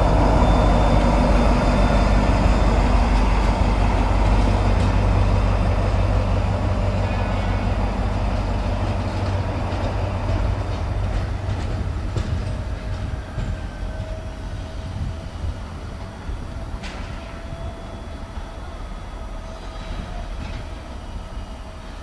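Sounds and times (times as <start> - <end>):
diesel locomotive engine drone: 0.0 - 22.0
train wheels clicking on track: 0.0 - 22.0.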